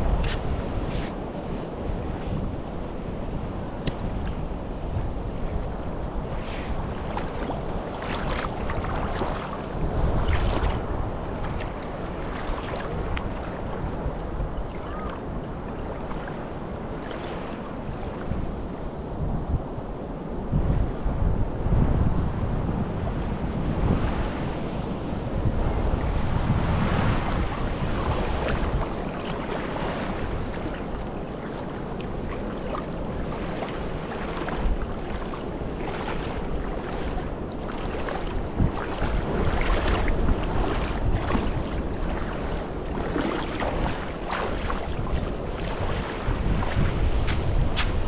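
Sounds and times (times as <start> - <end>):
small waves lapping on sand: 0.0 - 20.1, 23.3 - 48.0
wind on microphone: 0.0 - 48.0.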